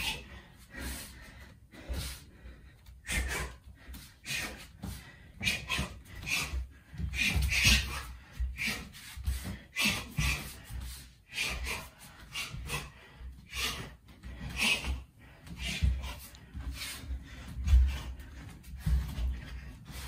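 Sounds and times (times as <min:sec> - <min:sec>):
bare feet thudding on wooden floor: 0:03.8 - 0:20.0.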